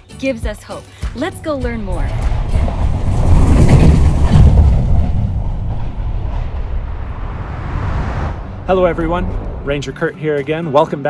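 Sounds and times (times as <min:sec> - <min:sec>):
train rumbling past: 0:01.2 - 0:10.2.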